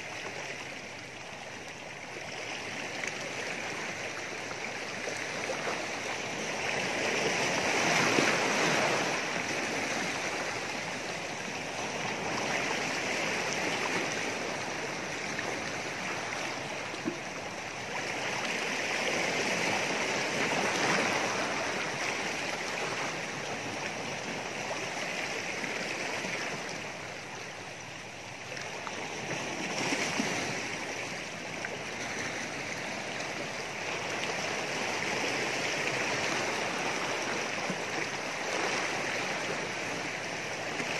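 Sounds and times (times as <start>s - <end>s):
waves splashing against rocks: 2.4s - 27.0s, 28.6s - 40.9s.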